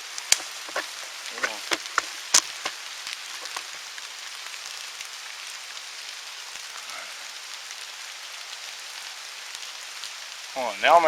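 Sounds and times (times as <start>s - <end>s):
steady rain in woods: 0.0s - 11.0s.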